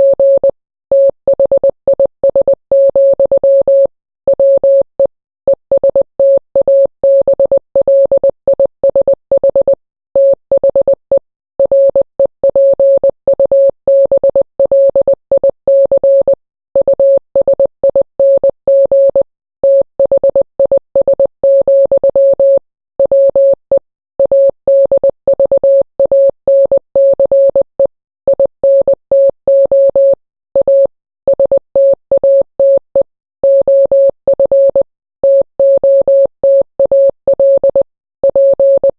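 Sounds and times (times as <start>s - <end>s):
morse code beeps: 0.0s - 4.9s, 11.6s - 23.6s, 24.2s - 38.9s.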